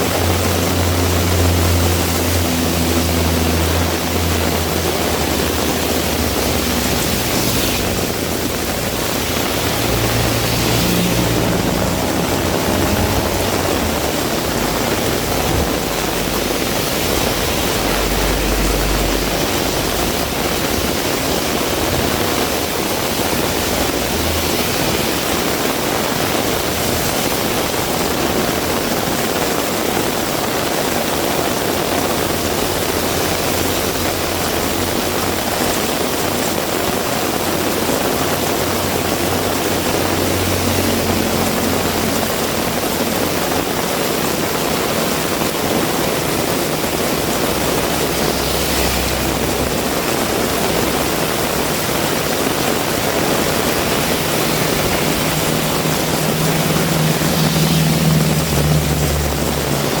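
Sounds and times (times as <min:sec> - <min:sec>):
heavy rain pouring: 0:00.0 - 1:00.0.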